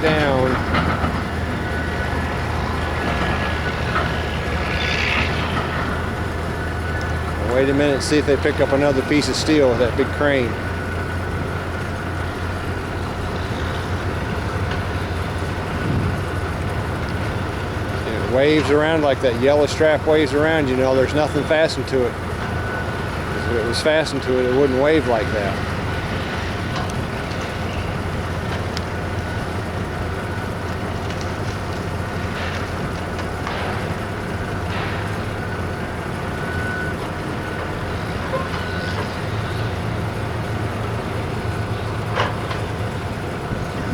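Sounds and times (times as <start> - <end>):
construction machinery engine rumble: 0.0 - 43.9
thin steady whine: 0.0 - 43.9.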